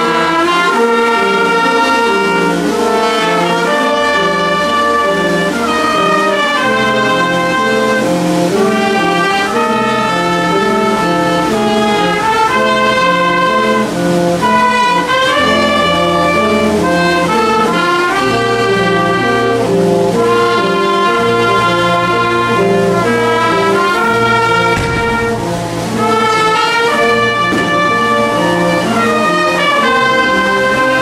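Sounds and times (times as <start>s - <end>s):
tuba bass line: 0.0s - 31.0s
wind band playing: 0.0s - 31.0s.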